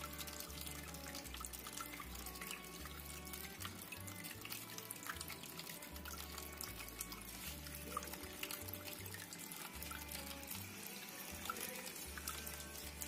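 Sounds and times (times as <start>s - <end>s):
fountain water trickling and splashing: 0.0s - 13.0s
soft background music: 0.0s - 13.0s.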